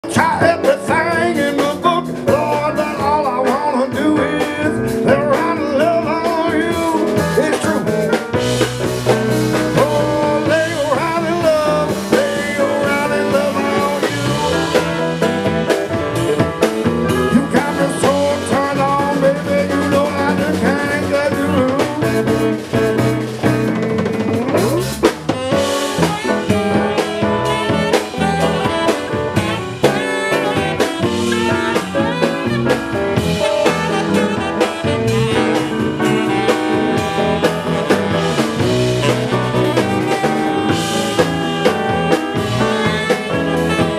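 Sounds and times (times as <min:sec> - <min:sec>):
drum kit beat: 0:00.0 - 0:43.9
live band playing: 0:00.0 - 0:43.9.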